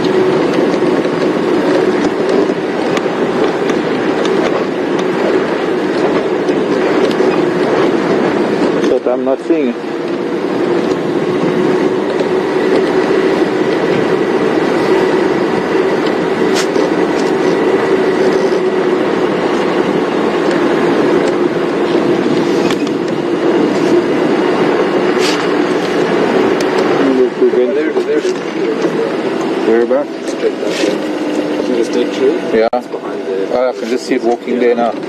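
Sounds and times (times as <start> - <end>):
vehicle engine and road drone: 0.0 - 35.0.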